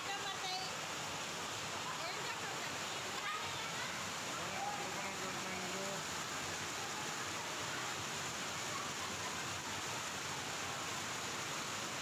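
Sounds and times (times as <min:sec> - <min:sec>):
floodwater rushing over ground: 0:00.0 - 0:12.0.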